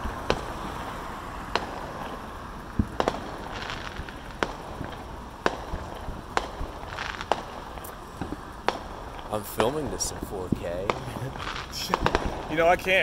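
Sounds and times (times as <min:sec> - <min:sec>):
deep fireworks thump: 0:00.0 - 0:13.0
distant fireworks bangs: 0:00.0 - 0:13.0
street traffic: 0:00.0 - 0:13.0.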